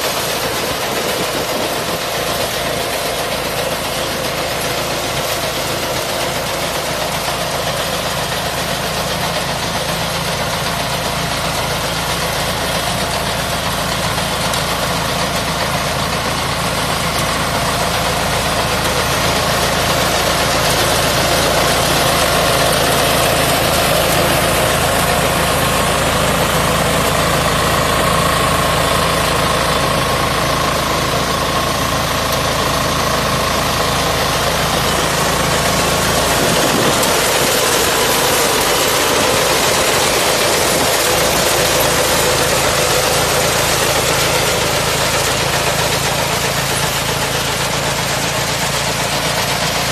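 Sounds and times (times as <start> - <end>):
harvester diesel engine under load: 0.0 - 49.9.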